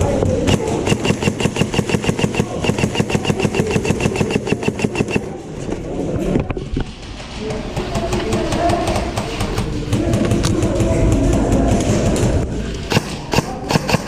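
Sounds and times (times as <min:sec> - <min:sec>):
airsoft guns firing: 0:00.0 - 0:05.3, 0:07.6 - 0:14.0.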